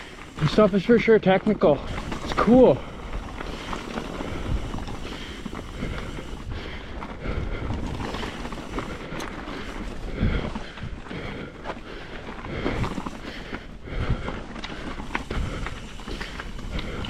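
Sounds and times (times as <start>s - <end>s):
bike rolling over rocky trail: 0.0s - 17.0s
knocks and rattles from bike: 0.0s - 17.0s
wind buffeting microphone: 1.9s - 17.0s.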